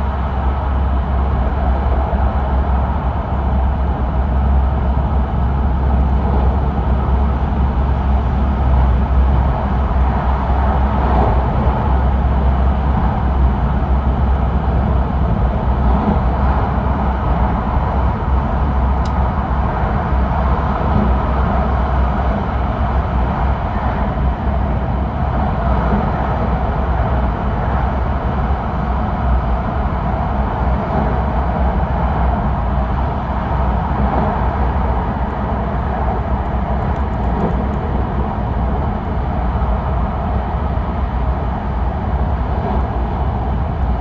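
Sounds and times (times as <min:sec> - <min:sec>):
train interior rushing noise: 0:00.0 - 0:44.0.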